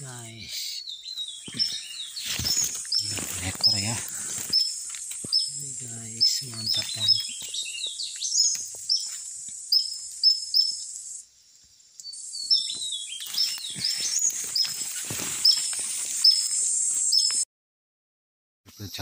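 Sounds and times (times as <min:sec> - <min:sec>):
bird chirping: 0:00.0 - 0:17.4.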